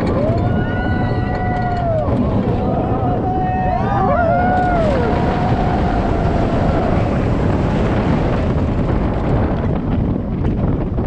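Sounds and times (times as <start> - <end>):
wheels rumbling on steel track: 0.0 - 11.0
wind rushing over microphone: 0.0 - 11.0.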